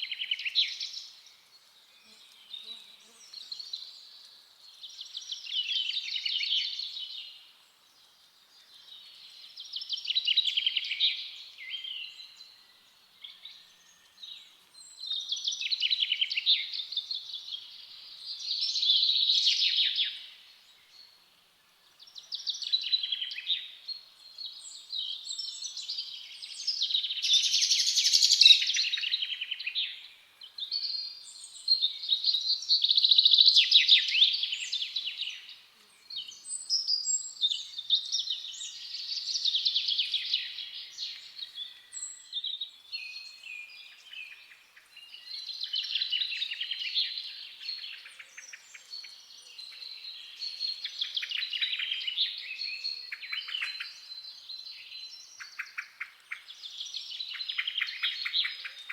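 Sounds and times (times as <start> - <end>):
songbirds twittering: 0.0 - 58.9.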